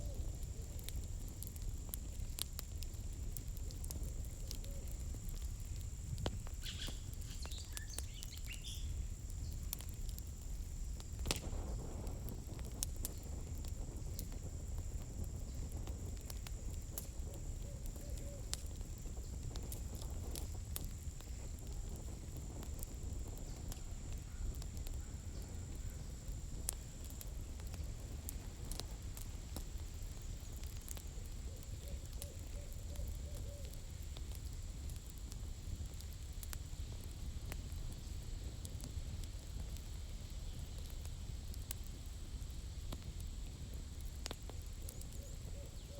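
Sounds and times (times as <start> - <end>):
campfire crackling: 0.0 - 45.9
low rumble of flames: 0.0 - 45.9.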